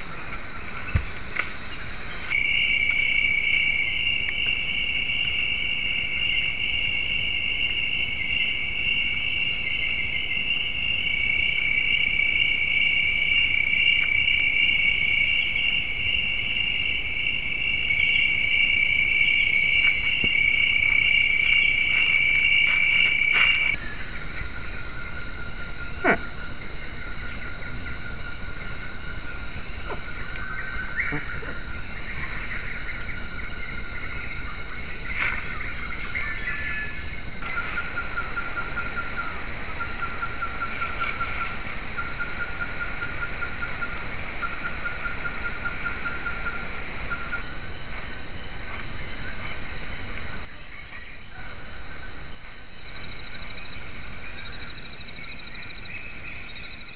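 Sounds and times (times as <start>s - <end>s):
shrill chorus of night insects: 0.0s - 56.9s.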